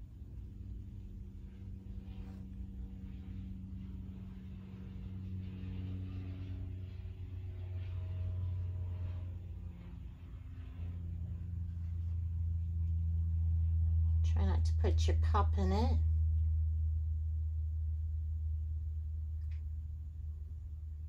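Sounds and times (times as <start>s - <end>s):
faint wavering tones: 0.0s - 21.0s
steady low hum: 0.0s - 21.0s.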